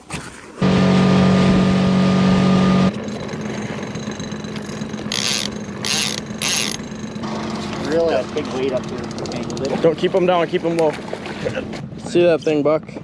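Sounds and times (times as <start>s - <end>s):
boat motor running: 0.6s - 12.4s.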